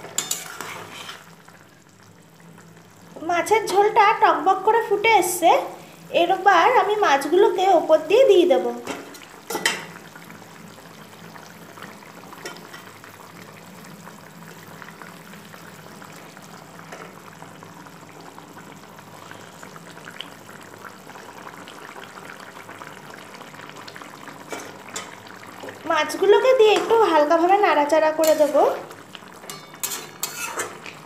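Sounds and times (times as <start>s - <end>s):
gravy boiling and bubbling: 0.0s - 31.0s.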